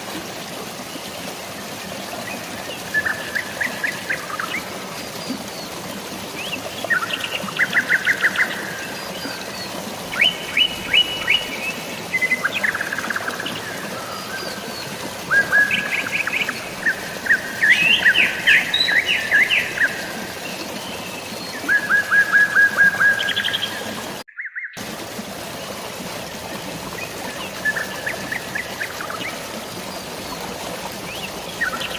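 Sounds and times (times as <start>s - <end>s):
rain hiss: 0.0s - 24.2s, 24.8s - 31.9s
flowing water: 0.0s - 31.9s
songbirds chirping and trilling: 2.3s - 24.8s, 26.5s - 31.9s.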